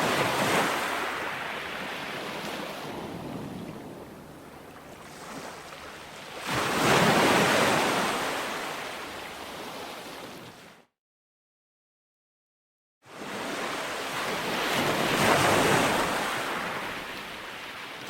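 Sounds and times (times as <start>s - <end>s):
ocean waves breaking on beach: 0.0s - 10.9s, 13.1s - 18.0s.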